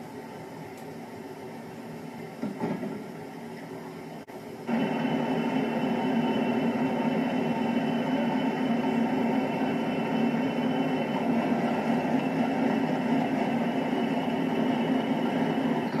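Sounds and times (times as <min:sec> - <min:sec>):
diesel locomotive engine drone: 0:00.0 - 0:16.0
high steady whine: 0:00.0 - 0:16.0.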